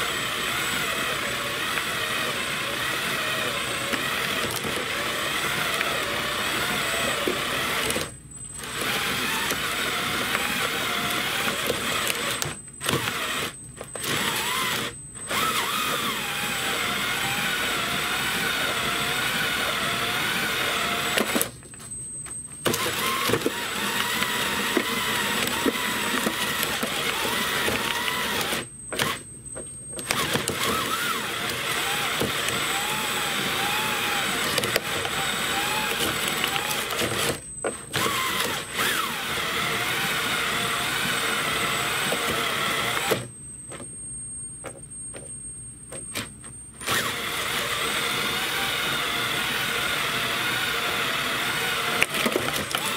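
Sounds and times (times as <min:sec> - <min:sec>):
power drill running a shredder: 0:00.0 - 0:21.5, 0:22.6 - 0:29.2, 0:30.0 - 0:43.3, 0:46.8 - 0:52.9.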